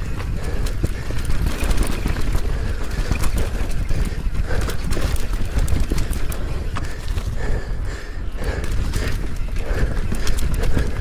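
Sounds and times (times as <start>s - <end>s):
bike clicks and rattles: 0.0s - 11.0s
bike tyres on dirt and rock: 0.0s - 11.0s
wind buffeting microphone: 0.0s - 11.0s.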